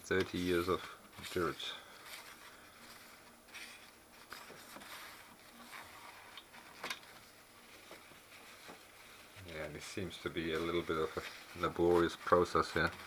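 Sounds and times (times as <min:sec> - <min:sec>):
tissue rubbing on glass: 0:00.0 - 0:13.0.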